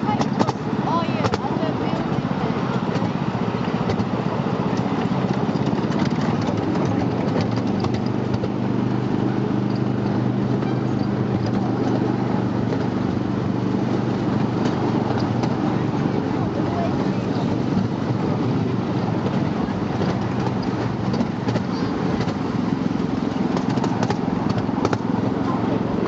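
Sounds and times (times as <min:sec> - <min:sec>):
miniature train engine hum: 0:00.0 - 0:26.0
wheels clicking over rails: 0:00.0 - 0:26.0.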